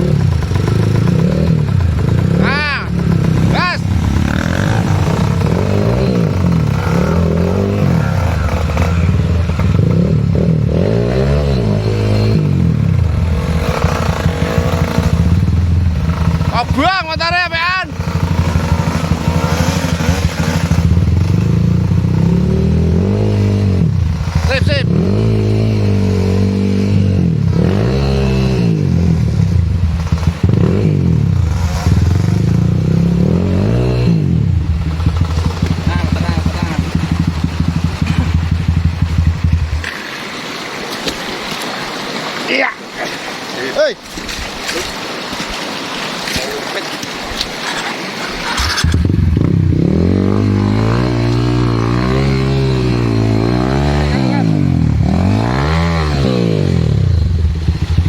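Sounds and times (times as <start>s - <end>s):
motorcycle engine revving: 0.0s - 42.1s, 45.0s - 58.0s.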